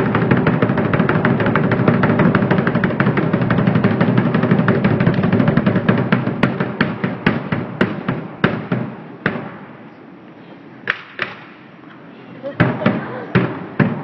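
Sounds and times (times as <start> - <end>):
rapid sharp bangs: 0.0 - 9.8, 10.8 - 11.6, 12.6 - 14.0.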